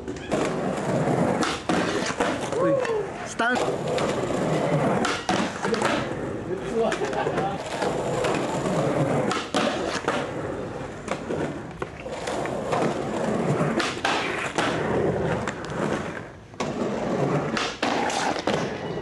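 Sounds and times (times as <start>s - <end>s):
skateboard clacks: 0.0s - 19.0s
skateboard rolling on concrete: 0.0s - 19.0s.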